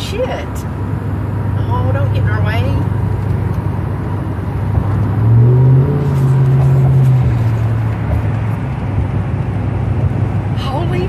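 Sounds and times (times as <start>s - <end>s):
car engine accelerating: 0.8s - 11.0s.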